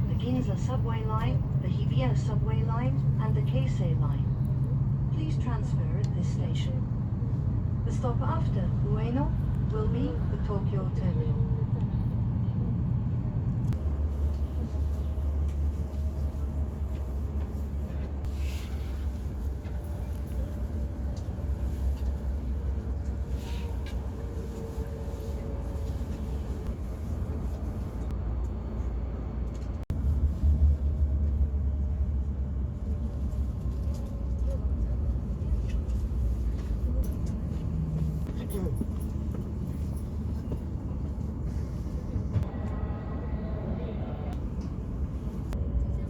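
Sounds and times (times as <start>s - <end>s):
train rumble inside passenger car: 0.0s - 46.0s.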